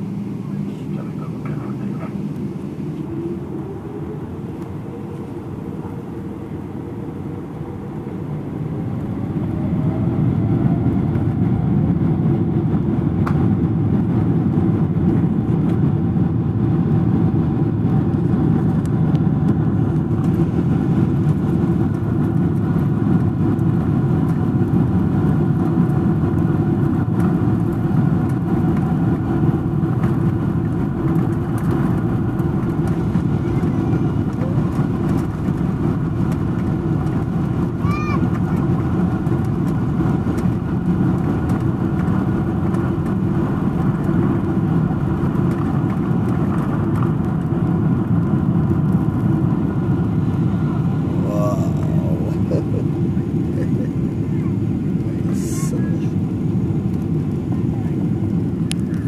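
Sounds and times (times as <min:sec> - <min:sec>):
jet engines whining: 0:00.0 - 0:59.0
plane rumble on runway: 0:00.0 - 0:59.0.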